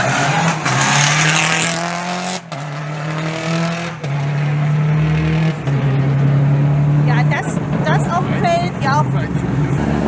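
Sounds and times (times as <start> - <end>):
rally car engine accelerating: 0.0 - 10.0.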